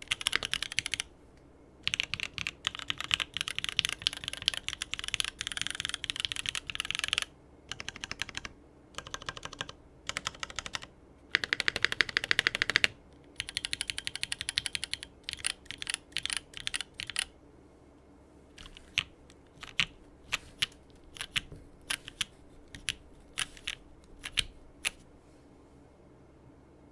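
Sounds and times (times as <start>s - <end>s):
mechanical keyboard keystrokes: 0.0s - 1.1s, 1.8s - 17.3s, 18.6s - 25.0s.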